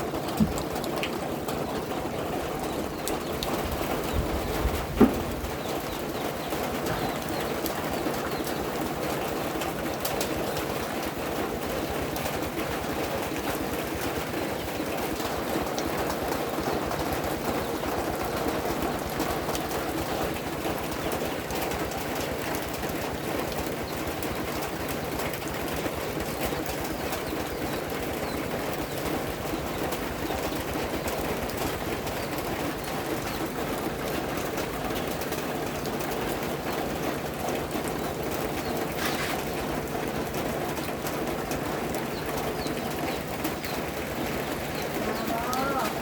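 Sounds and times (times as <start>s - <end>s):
birds calling: 0.0s - 46.0s
rain falling: 0.0s - 46.0s.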